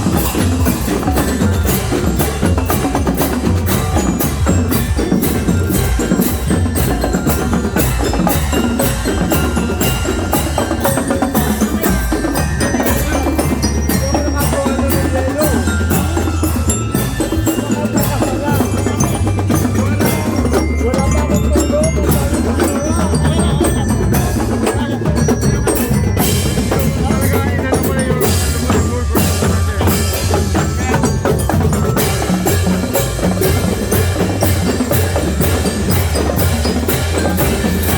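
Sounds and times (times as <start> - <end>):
percussion band drumming: 0.0 - 37.9
ringing mallet notes: 0.0 - 37.9
steady bass drum: 0.0 - 37.9.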